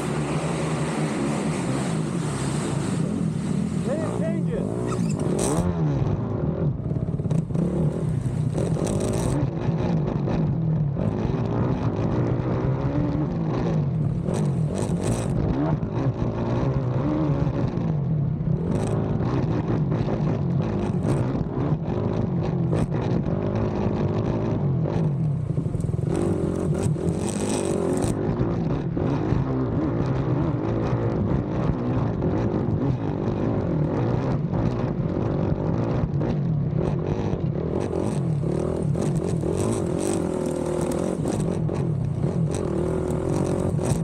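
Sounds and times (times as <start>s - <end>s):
atv engine revving: 0.0s - 44.0s.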